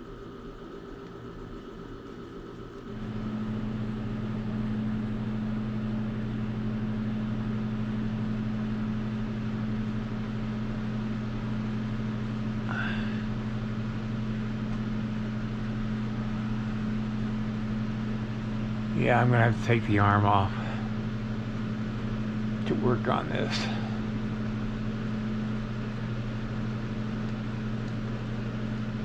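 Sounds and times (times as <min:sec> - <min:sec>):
electric motor humming: 0:00.0 - 0:29.0.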